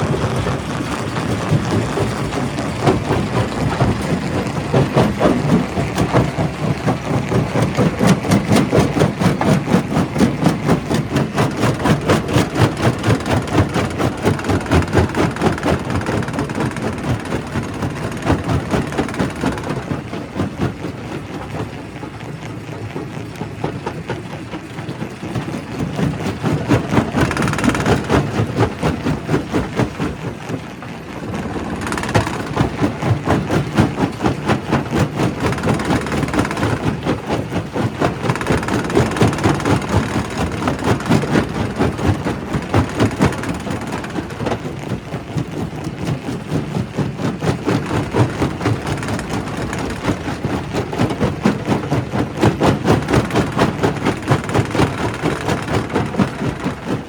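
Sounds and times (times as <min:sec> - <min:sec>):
rock crusher pulsing: 0:00.0 - 0:22.1, 0:25.0 - 0:57.0.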